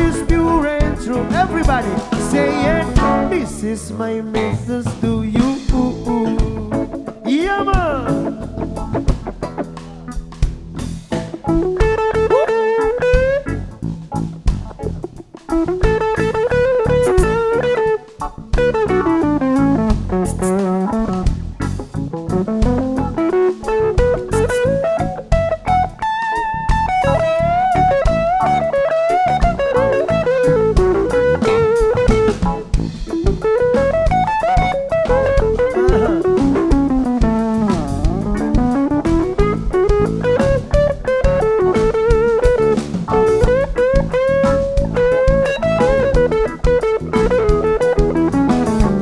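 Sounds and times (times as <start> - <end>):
electric guitar solo: 0.0 - 4.7, 5.4 - 49.0
reggae drums and bass: 0.0 - 49.0.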